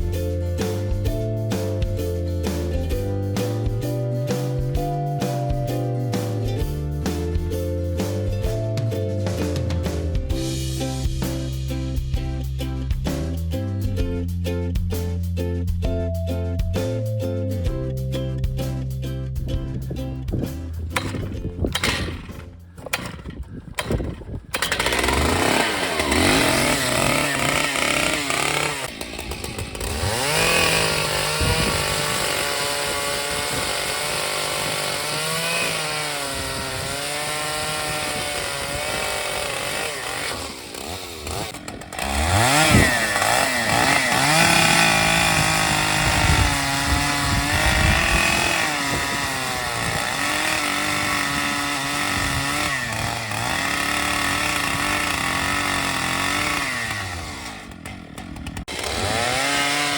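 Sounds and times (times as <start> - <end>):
chainsaw cutting wood: 0.0 - 11.4, 20.3 - 59.9.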